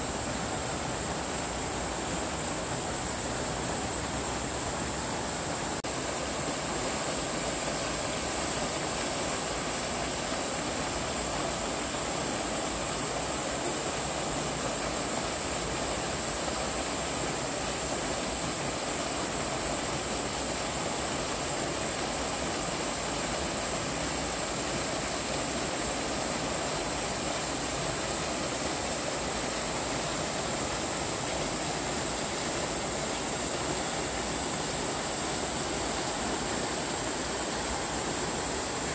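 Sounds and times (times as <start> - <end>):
constant high hiss: 0.0 - 38.9
waterfall and stream rushing: 0.0 - 38.9.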